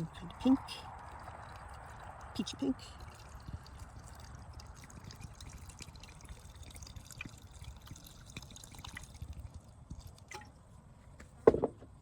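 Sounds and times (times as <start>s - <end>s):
water dripping and trickling: 0.0s - 10.8s
low steady hum: 0.0s - 12.0s.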